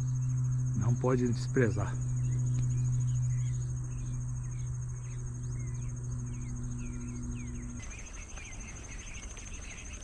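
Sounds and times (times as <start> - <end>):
bird chirps: 0.0 - 10.0
insects trilling: 0.0 - 10.0
low hum: 0.0 - 10.0.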